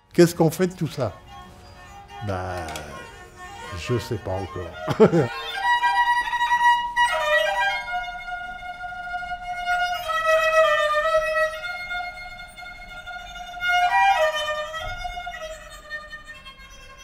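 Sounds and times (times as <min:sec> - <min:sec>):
bowed string instrument: 0:00.0 - 0:17.0.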